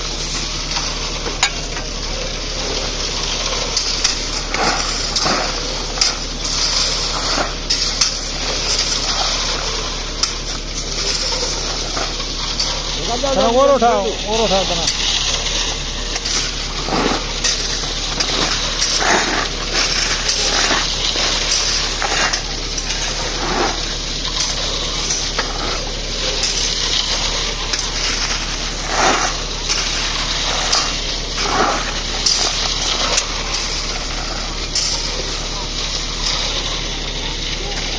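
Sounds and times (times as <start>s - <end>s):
low engine hum: 0.0s - 37.9s
shovels scraping: 0.0s - 37.9s.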